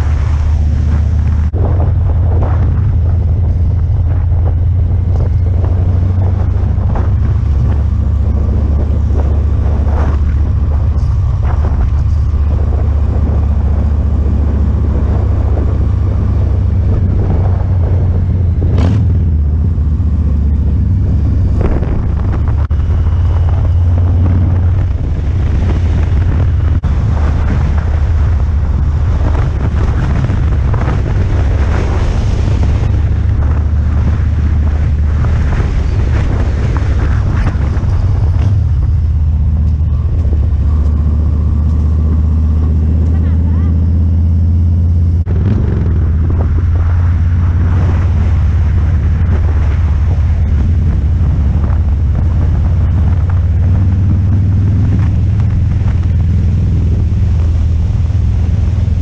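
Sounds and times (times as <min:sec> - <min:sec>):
motorcycle engine rumbling: 0:00.0 - 0:59.0
wind buffeting microphone: 0:00.0 - 0:59.0.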